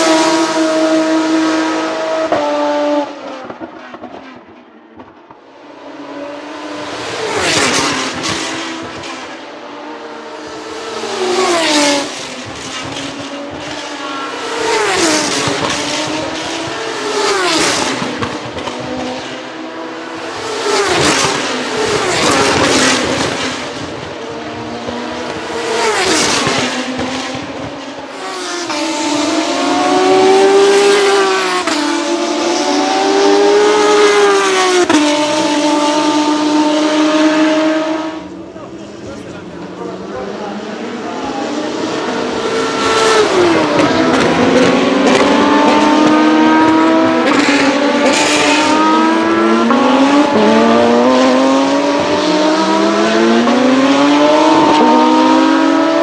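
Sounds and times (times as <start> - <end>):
race car engine rising and falling: 0.0 - 56.0
race cars passing at speed: 0.0 - 56.0.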